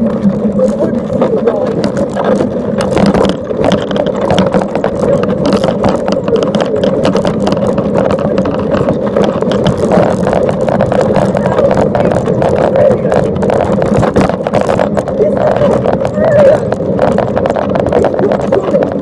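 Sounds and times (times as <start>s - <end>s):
road noise: 0.0s - 19.0s
short irregular crackles: 0.0s - 19.0s.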